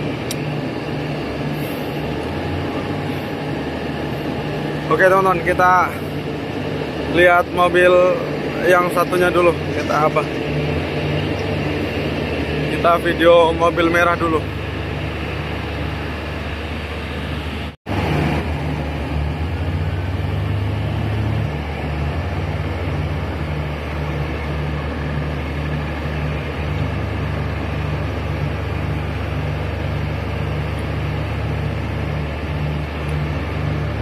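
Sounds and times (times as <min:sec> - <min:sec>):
dump truck idling: 0:00.0 - 0:34.0
wheel loader diesel engine: 0:00.0 - 0:34.0.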